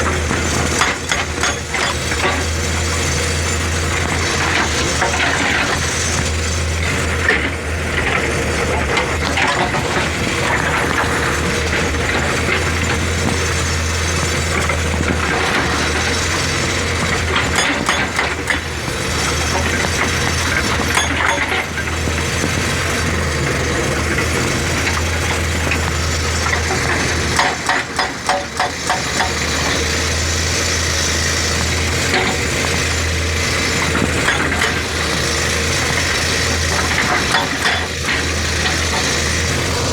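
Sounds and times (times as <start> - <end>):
hydraulic hammer striking rock: 0.0 - 8.2, 8.8 - 23.2, 24.2 - 39.9
excavator diesel engine running: 0.0 - 39.9.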